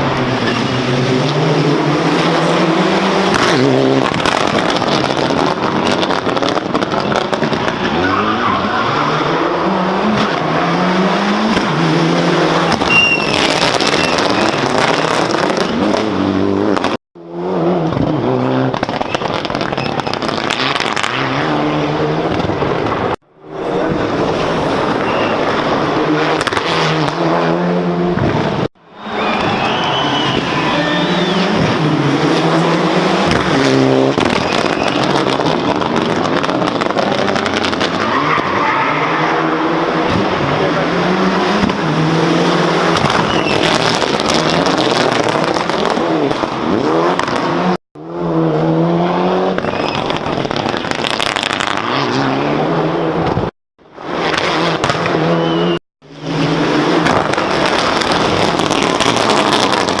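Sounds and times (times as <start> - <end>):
exhaust pops and crackles: 0.0 - 8.6, 12.5 - 17.0, 17.8 - 27.5, 28.1 - 38.8, 39.9 - 40.9, 41.5 - 47.8, 49.5 - 60.0
rally car engines revving: 0.0 - 60.0
tyres skidding: 0.0 - 60.0.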